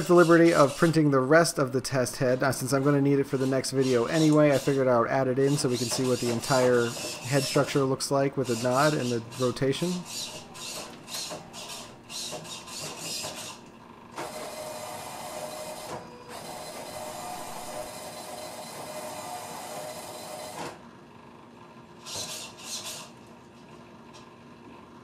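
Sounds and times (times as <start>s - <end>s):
small motors whirring: 0.0s - 1.0s, 2.3s - 20.7s, 22.0s - 23.2s.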